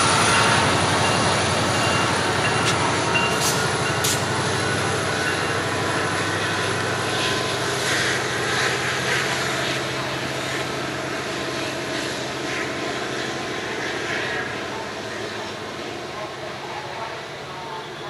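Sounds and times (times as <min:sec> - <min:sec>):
rail noise: 0:00.0 - 0:18.0
train engine drone: 0:00.0 - 0:18.0.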